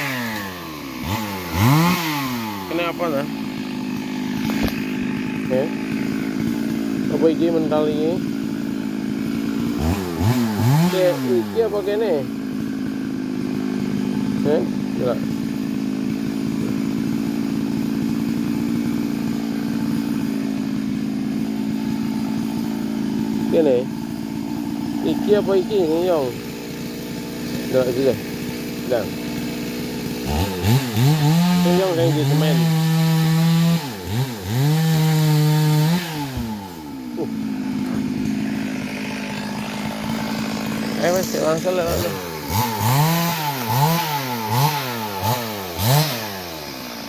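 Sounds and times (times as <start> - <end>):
chainsaw engine running: 0.0 - 47.0.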